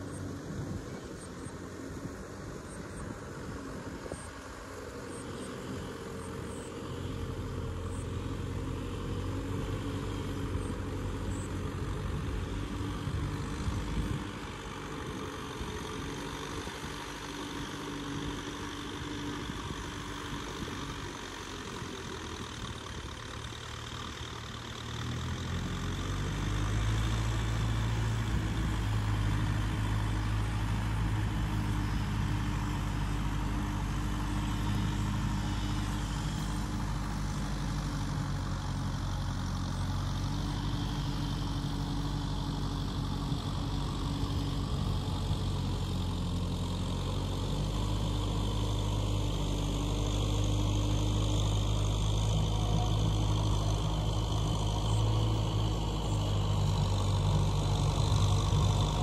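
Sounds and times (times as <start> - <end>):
distant tractor diesel engine: 0.0 - 59.0.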